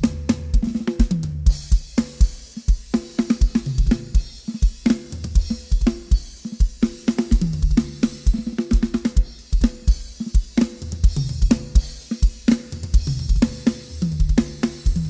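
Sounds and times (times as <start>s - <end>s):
kick drum and snare groove: 0.0s - 15.0s
cymbal and hi-hat wash: 1.2s - 15.0s.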